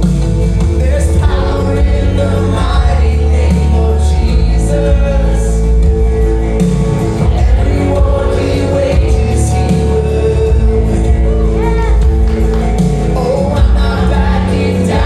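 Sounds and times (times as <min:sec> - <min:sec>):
full band playing: 0:00.0 - 0:15.0
group of voices singing: 0:00.0 - 0:15.0.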